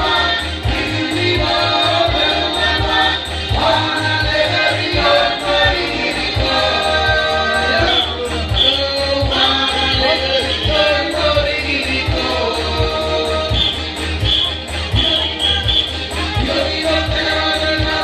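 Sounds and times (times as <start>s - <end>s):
deep beat: 0.0s - 18.0s
men's choir singing gospel: 0.0s - 18.0s.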